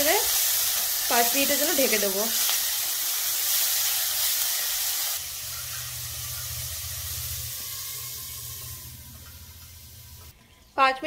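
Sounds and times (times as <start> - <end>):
vegetables sizzling in oil: 0.0 - 10.9.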